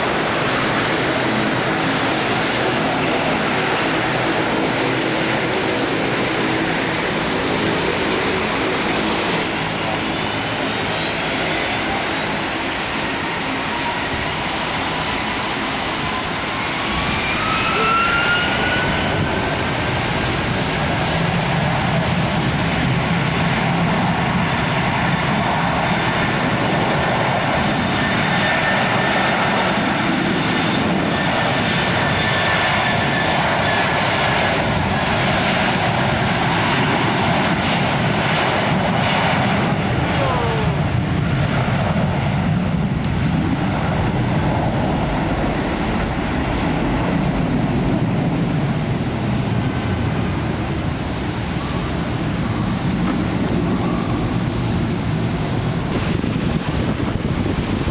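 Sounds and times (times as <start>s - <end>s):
jet engines rushing: 0.0s - 57.9s.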